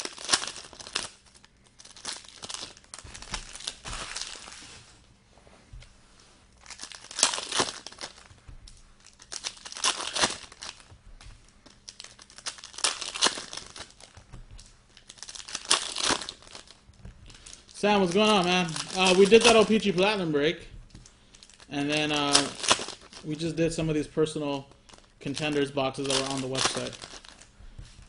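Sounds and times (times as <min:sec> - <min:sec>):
card pack wrappers crinkling: 0:00.0 - 0:05.0, 0:06.4 - 0:28.0.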